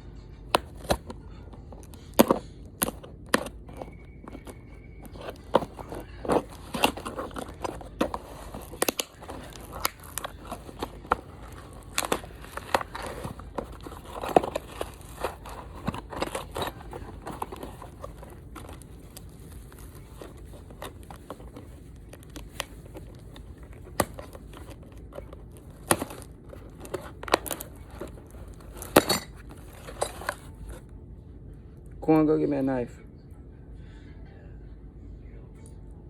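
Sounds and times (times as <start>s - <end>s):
plastic packaging crinkling and tearing: 0.6s - 30.8s.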